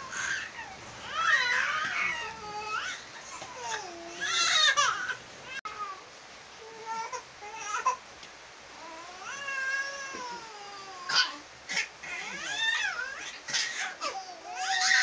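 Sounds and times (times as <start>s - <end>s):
baby crying: 0.0s - 6.0s, 8.8s - 15.0s.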